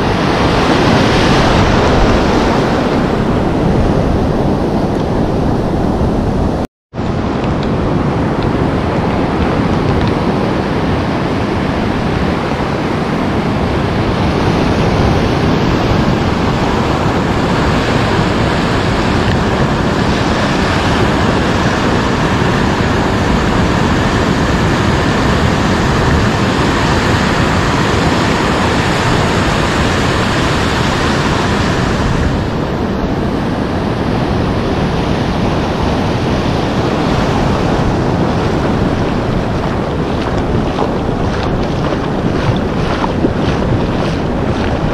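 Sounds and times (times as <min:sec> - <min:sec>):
surf breaking on sand: 0:00.0 - 0:44.9
wind buffeting microphone: 0:00.0 - 0:44.9.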